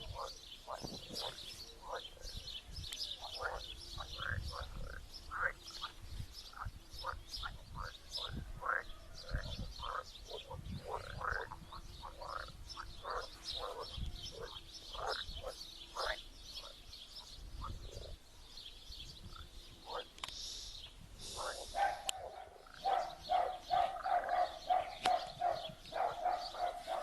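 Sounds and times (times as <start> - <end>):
frogs croaking: 0.0 - 18.2, 19.2 - 20.3, 21.2 - 27.0
birds chirping: 0.0 - 27.0.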